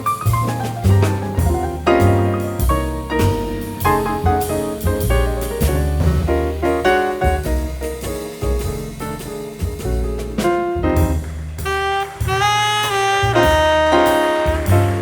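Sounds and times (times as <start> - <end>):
jazz music with saxophone: 0.0 - 15.0.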